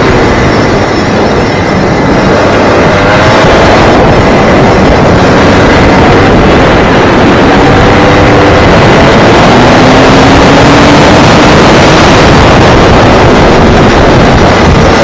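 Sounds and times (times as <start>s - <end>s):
go-kart engine running hard: 0.0s - 15.0s
loud rush of noise: 0.0s - 15.0s.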